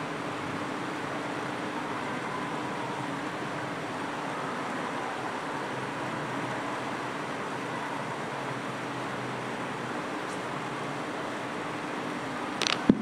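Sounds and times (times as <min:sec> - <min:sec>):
air conditioning whirring hiss: 0:00.0 - 0:13.0
faint steady hum: 0:00.0 - 0:13.0.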